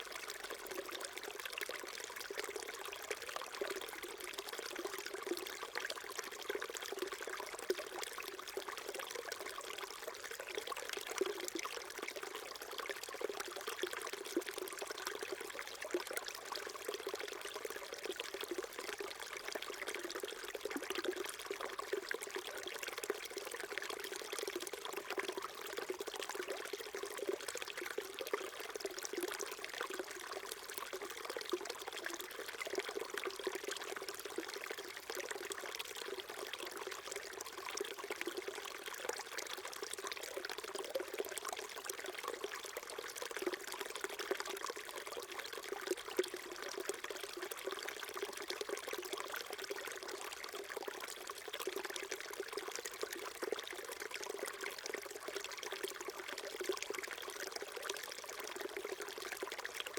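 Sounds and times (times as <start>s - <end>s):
stream trickling and gurgling: 0.0s - 59.9s.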